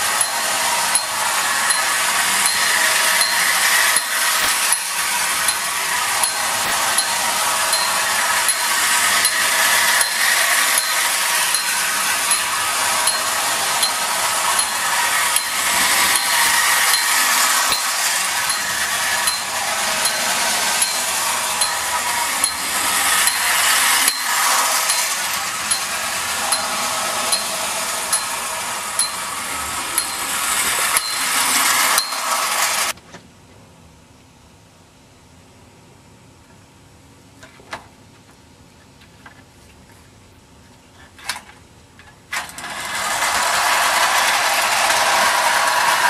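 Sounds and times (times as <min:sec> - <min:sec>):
clockwork toy train whirring: 0:00.0 - 0:33.0, 0:42.0 - 0:46.0.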